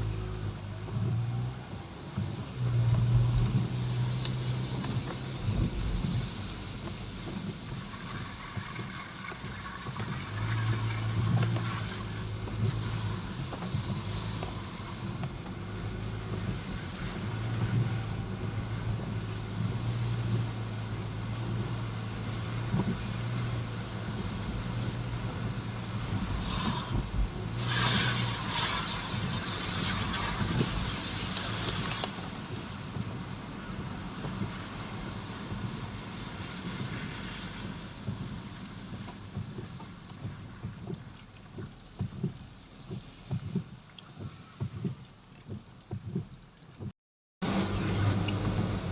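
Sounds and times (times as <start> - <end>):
low engine hum: 0.0 - 48.9
road and wind noise: 0.0 - 48.9.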